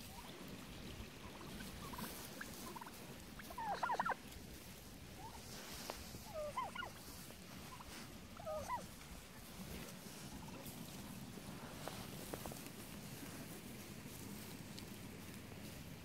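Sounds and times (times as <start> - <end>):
turkeys gobbling: 0.0 - 16.0.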